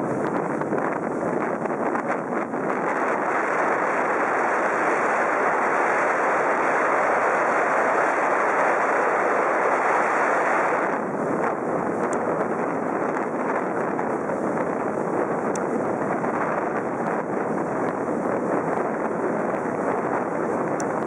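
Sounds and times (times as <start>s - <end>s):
choppy water slapping a boat: 0.0s - 21.0s
wind buffeting the microphone: 0.0s - 21.0s.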